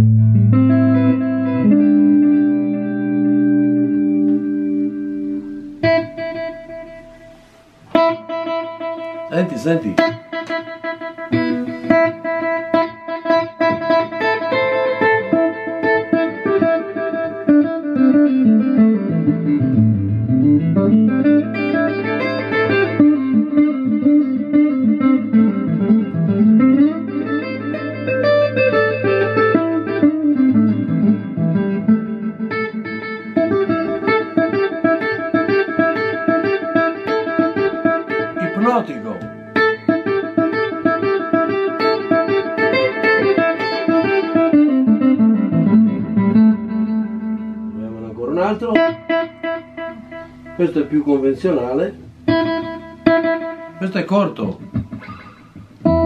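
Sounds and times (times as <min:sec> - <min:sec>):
electric guitar with echo: 0:00.0 - 0:56.0.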